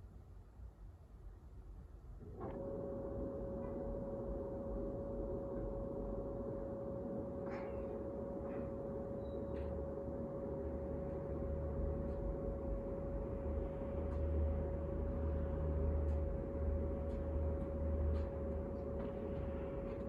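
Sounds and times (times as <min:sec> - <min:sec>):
clothes dryer running: 0:02.2 - 0:20.0.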